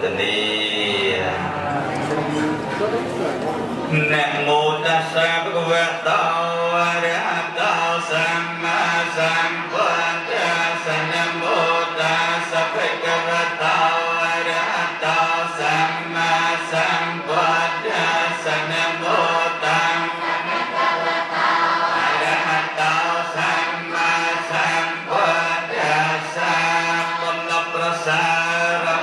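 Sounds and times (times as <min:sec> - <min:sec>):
monk chanting into microphone: 0:00.0 - 0:20.7, 0:22.0 - 0:29.0.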